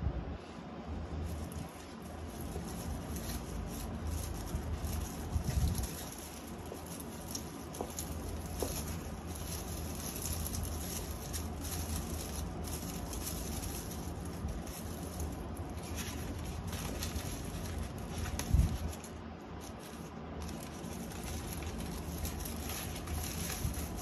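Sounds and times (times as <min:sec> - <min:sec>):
packing paper rustling and crinkling: 0:01.0 - 0:24.0.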